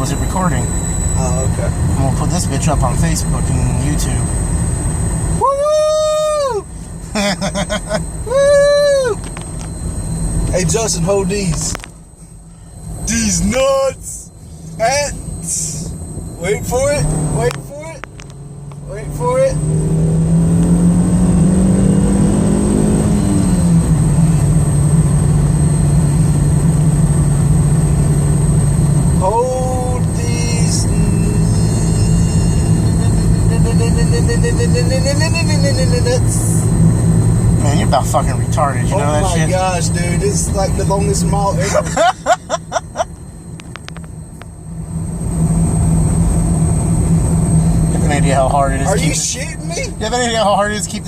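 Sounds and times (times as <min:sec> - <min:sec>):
car engine hum: 0:00.0 - 0:51.0
road noise: 0:00.0 - 0:51.0.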